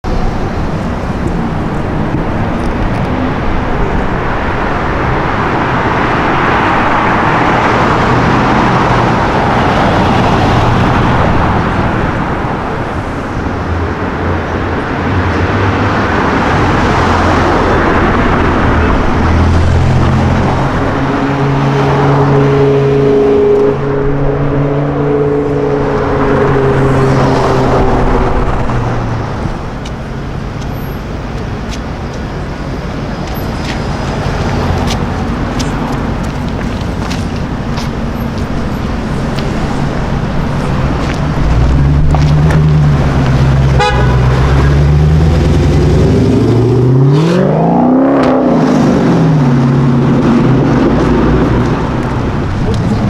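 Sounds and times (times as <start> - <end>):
cars driving by: 0.0 - 53.0.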